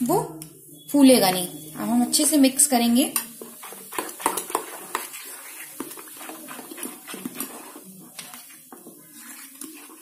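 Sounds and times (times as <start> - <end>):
spoon stirring batter in bowl: 0.0 - 10.0.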